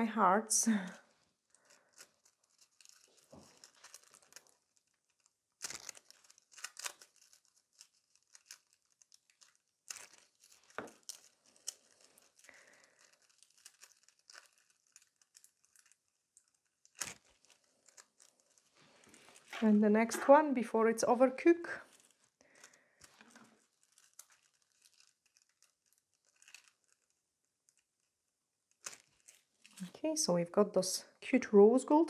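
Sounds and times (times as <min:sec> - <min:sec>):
faint crinkling and scratching: 0:00.7 - 0:20.8, 0:21.4 - 0:30.3.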